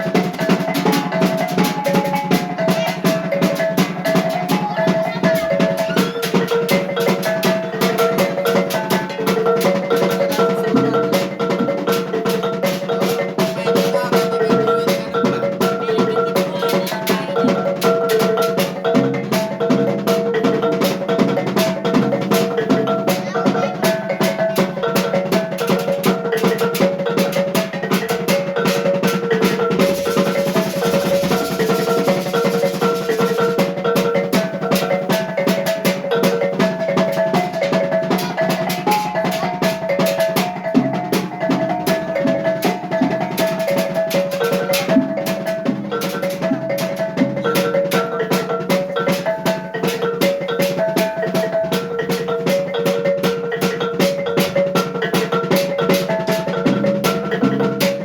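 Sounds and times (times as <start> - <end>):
drum and gong beat: 0.0 - 58.0.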